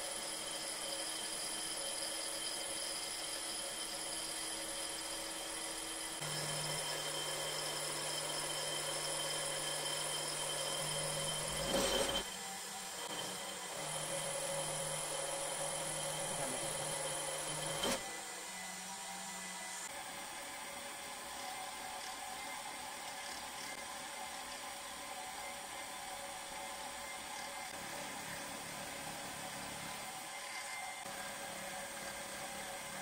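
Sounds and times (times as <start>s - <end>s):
power tool motor running: 0.0s - 33.0s.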